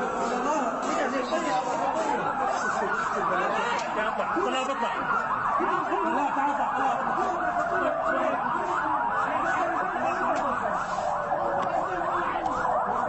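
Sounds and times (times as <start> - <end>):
long siren tone dropping in pitch: 0.0 - 13.0
sirens wailing: 0.0 - 13.0.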